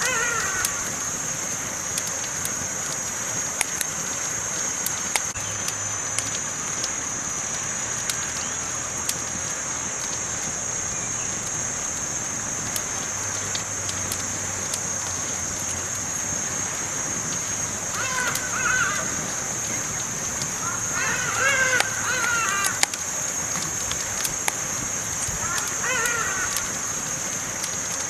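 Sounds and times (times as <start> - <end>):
campfire crackling and popping: 0.0 - 28.0
fire hissing: 0.0 - 28.0.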